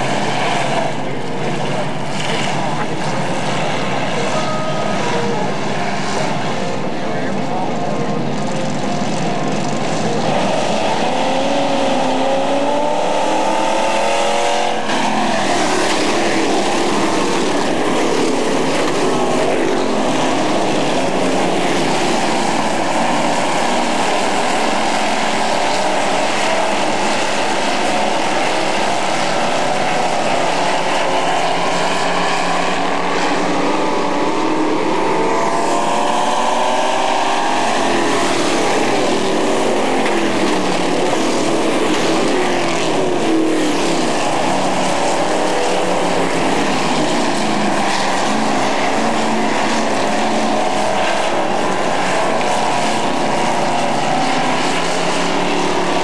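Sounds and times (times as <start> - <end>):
truck engines racing: 0.0 - 56.0.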